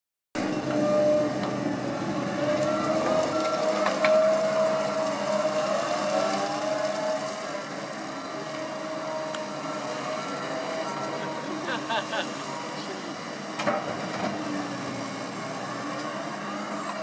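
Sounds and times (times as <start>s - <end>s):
machine engine and hydraulics whine: 0.4s - 17.0s.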